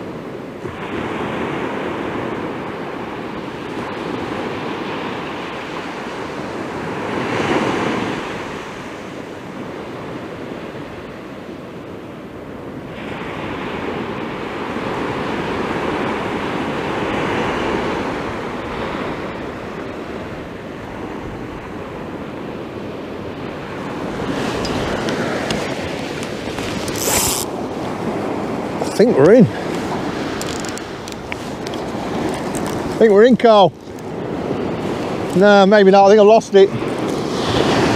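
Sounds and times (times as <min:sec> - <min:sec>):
waves breaking on shore: 0:00.0 - 0:37.9.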